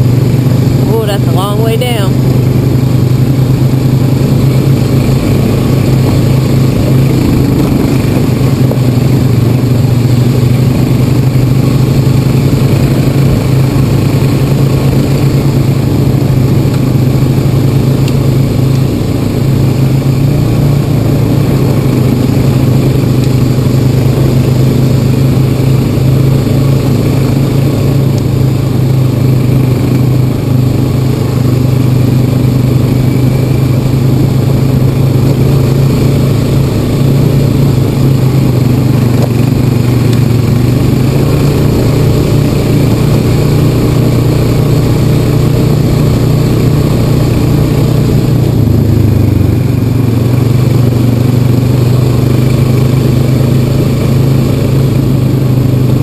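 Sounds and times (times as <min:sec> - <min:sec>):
atv engine humming: 0:00.0 - 0:56.0.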